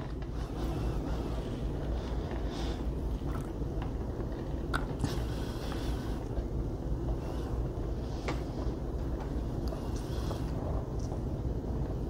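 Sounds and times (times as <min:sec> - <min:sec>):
faint low hum: 0:00.0 - 0:12.0
steady low rumble: 0:00.0 - 0:12.0.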